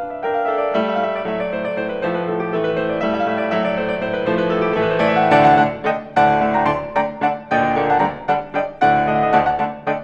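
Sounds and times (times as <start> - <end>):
piano piece: 0.0 - 10.0.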